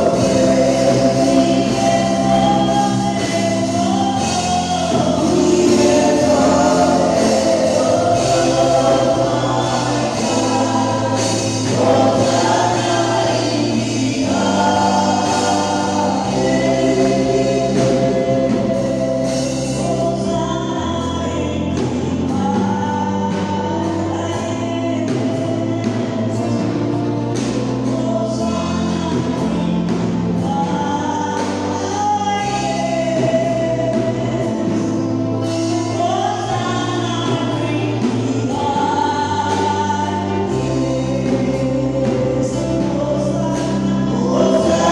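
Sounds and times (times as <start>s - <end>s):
group singing gospel song: 0.0s - 44.9s
held bass notes: 0.0s - 44.9s.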